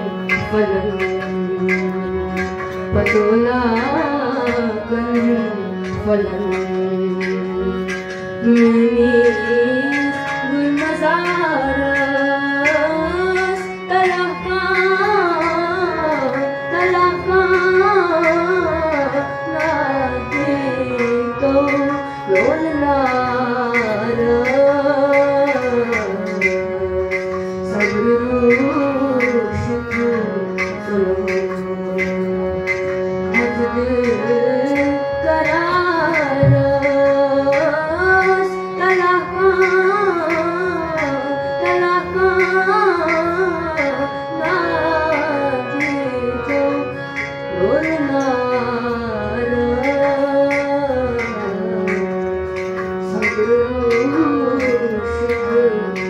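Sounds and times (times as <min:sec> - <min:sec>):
boy singing folk song: 0:00.0 - 0:32.3, 0:33.3 - 0:52.0, 0:53.0 - 0:56.0.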